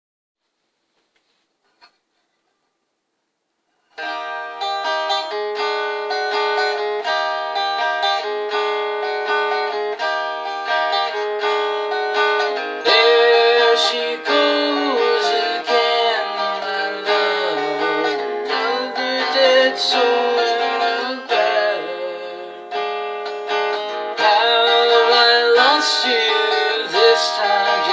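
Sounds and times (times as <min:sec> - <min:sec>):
guitar picked and strummed chords: 0:03.9 - 0:27.9.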